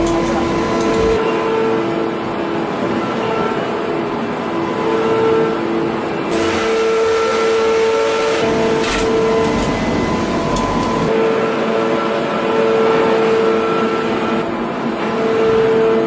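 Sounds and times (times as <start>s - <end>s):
forging press machine hum: 0.0s - 16.0s.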